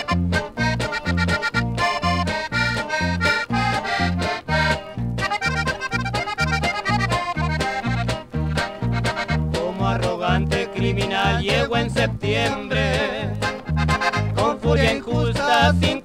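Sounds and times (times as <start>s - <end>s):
accordion melody: 0.0s - 16.0s
steady bass beat: 0.0s - 16.0s.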